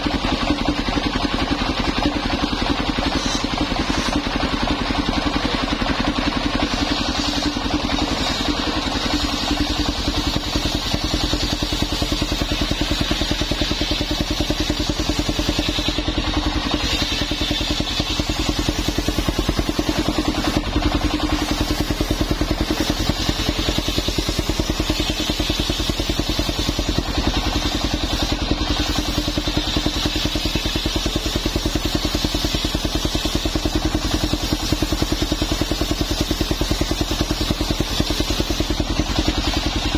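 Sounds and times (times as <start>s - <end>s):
saw blade cutting wood hiss: 0.0s - 39.9s
sawmill engine running: 0.0s - 39.9s.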